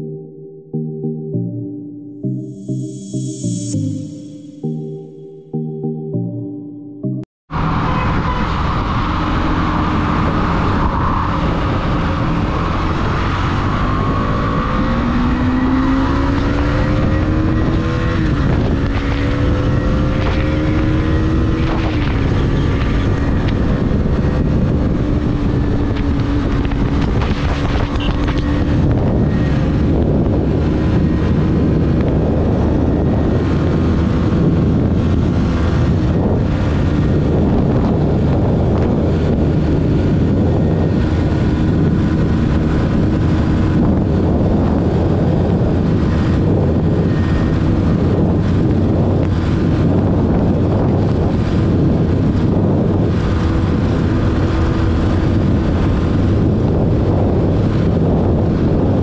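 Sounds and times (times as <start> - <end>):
motorcycle engine accelerating: 7.5 - 59.0
wind rush over microphone: 7.5 - 59.0.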